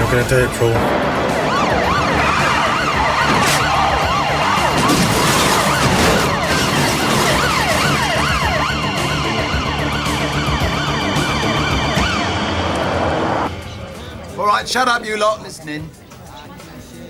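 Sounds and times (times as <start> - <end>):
police sirens wailing: 0.0 - 14.3
vehicle noise: 0.0 - 15.0.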